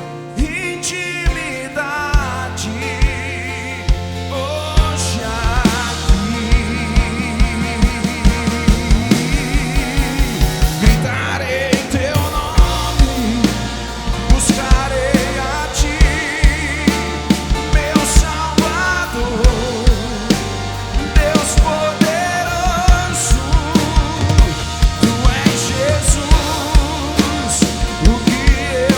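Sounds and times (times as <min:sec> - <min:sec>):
drum kit beat: 0:00.0 - 0:28.9
rock band playing: 0:00.0 - 0:28.9
wavering melodic lead line: 0:00.0 - 0:28.9.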